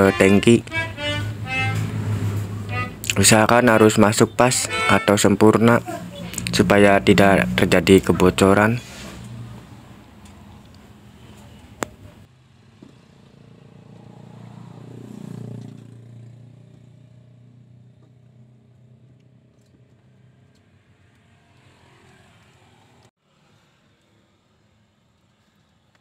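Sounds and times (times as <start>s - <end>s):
vehicle engine passing by: 0.0s - 4.9s, 5.8s - 23.9s.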